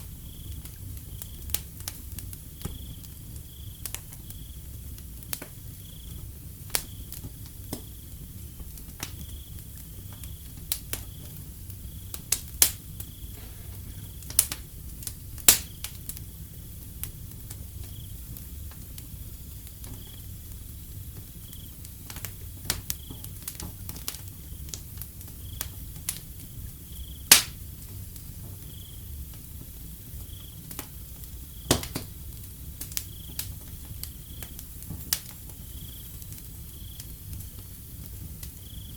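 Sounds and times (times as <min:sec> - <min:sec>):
crickets chirping: 0:00.0 - 0:01.6, 0:02.5 - 0:04.9, 0:05.6 - 0:07.1, 0:09.2 - 0:23.4, 0:24.3 - 0:27.3, 0:28.0 - 0:34.8, 0:35.4 - 0:38.9
low rumble of flames: 0:00.0 - 0:38.9
wood fire crackling and popping: 0:00.0 - 0:38.9.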